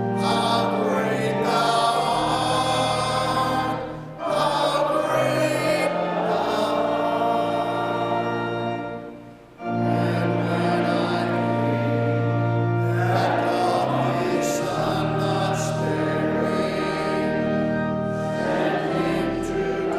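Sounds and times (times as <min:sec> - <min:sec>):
organ chords: 0:00.0 - 0:19.9
voices singing a hymn: 0:00.0 - 0:19.9.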